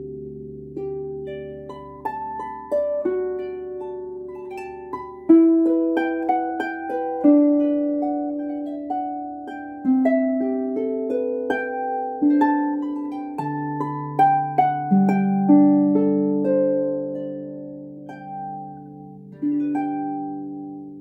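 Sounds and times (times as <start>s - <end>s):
harp playing: 0.0s - 21.0s.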